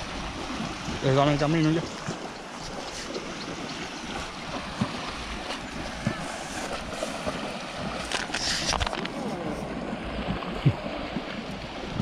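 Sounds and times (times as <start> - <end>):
water splashing and churning: 0.0 - 12.0.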